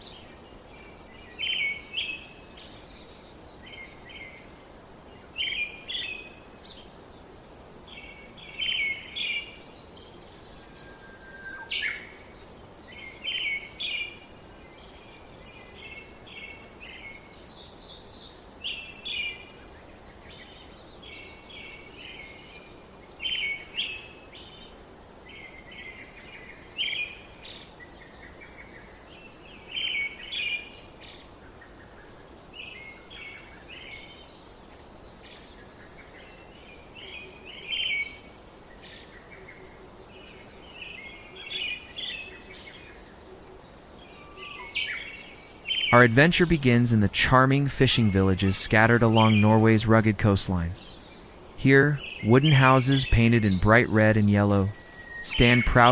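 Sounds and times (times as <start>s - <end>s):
faint outdoor hiss: 0.0s - 55.9s
songbirds chirping: 0.0s - 55.9s.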